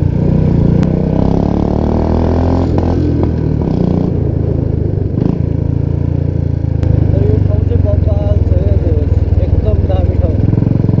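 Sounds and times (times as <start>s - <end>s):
motorcycle engine running loud: 0.0s - 11.0s.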